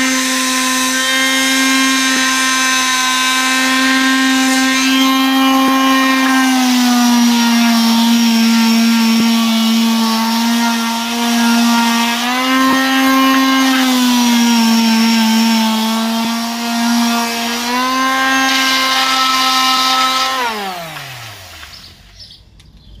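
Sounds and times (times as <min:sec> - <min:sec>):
electric sander whining: 0:00.0 - 0:22.0.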